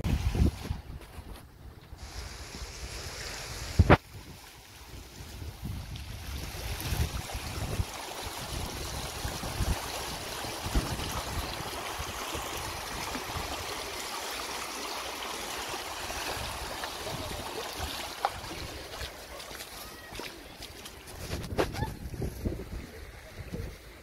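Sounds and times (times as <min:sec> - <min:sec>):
floodwater rushing: 0:02.0 - 0:24.0.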